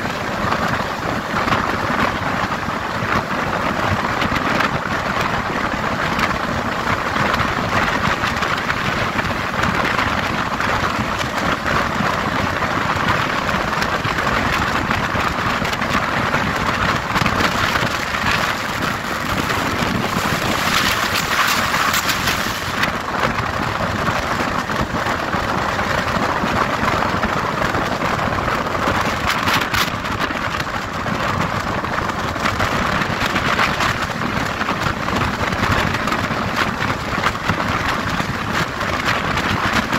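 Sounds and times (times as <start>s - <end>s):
rushing wind: 0.0s - 39.9s
train wheels on rails: 0.0s - 39.9s.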